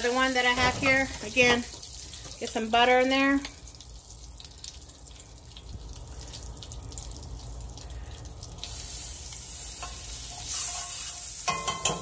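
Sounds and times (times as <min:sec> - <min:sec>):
oil crackling in a skillet: 0:00.0 - 0:12.0.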